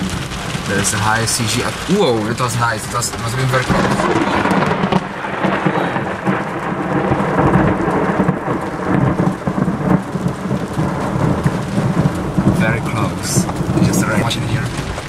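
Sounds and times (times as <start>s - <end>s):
heavy rain on a car: 0.0s - 15.0s
thunder rumbling: 0.0s - 15.0s.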